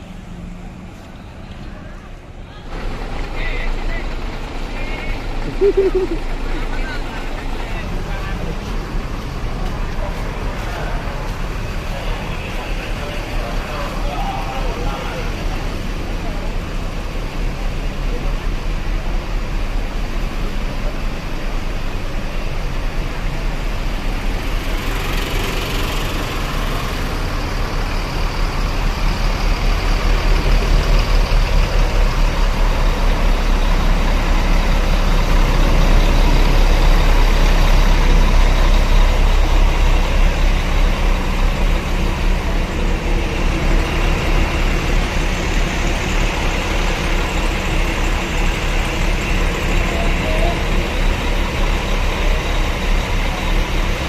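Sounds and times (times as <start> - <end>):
diesel bus engines rumbling: 0.0 - 54.0.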